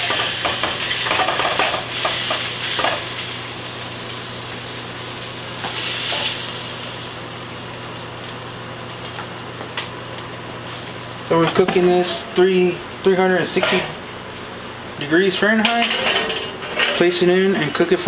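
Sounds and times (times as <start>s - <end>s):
hot oil sizzling and crackling: 0.0s - 15.7s.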